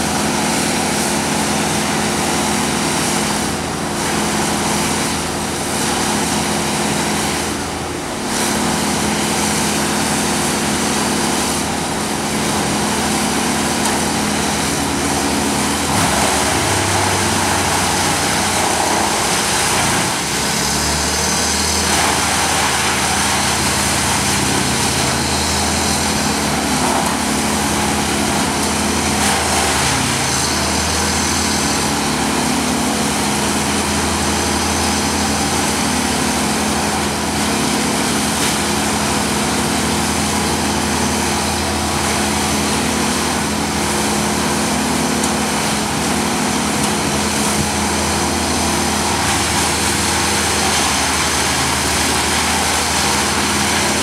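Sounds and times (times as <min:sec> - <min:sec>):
truck engines running: 0:00.0 - 0:54.0.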